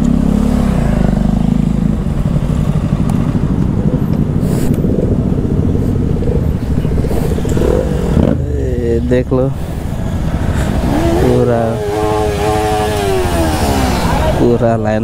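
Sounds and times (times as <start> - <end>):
motorcycle engine revving: 0.0 - 14.8
motorcycle engines idling: 0.0 - 15.0.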